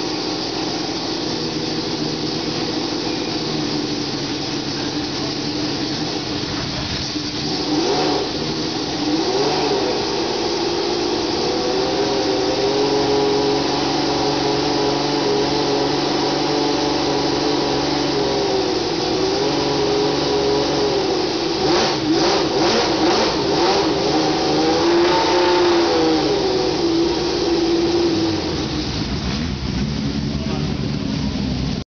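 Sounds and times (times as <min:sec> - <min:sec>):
exhaust crackles: 0:00.0 - 0:31.8
racing car engine revving: 0:00.0 - 0:31.8.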